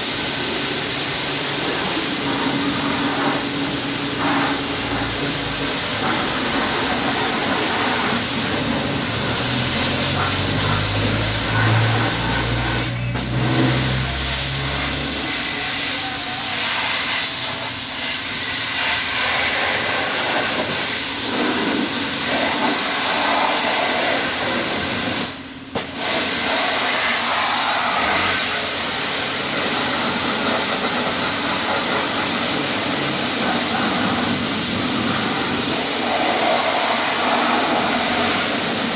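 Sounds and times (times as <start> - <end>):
pressure washer spray hissing: 0.0 - 38.9.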